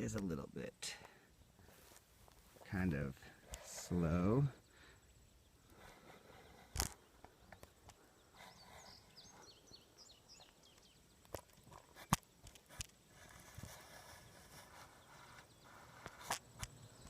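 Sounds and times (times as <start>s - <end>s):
faint outdoor ambience: 0.0s - 17.0s
bird chirping: 1.4s - 17.0s.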